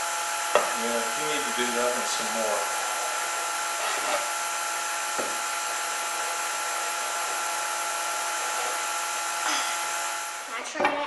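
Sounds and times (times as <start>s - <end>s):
machine hum with high tones: 0.0s - 10.7s.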